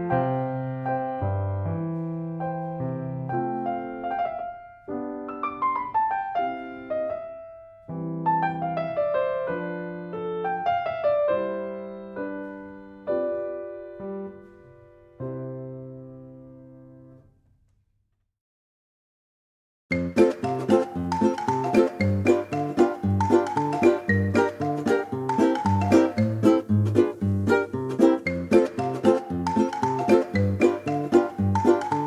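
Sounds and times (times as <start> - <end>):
gentle piano melody: 0.0 - 17.3, 19.9 - 32.0.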